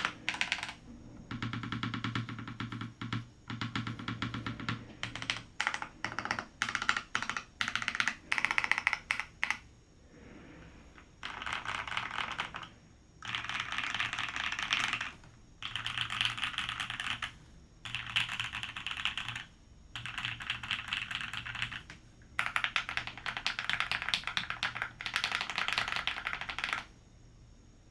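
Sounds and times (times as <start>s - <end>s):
mechanical keyboard typing: 0.0s - 9.6s, 11.2s - 26.9s.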